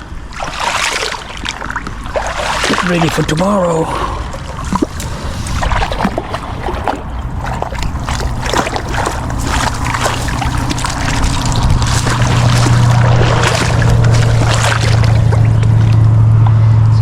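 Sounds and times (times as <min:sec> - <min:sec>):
water splashing and trickling: 0:00.0 - 0:16.3
low motor hum: 0:00.0 - 0:17.0.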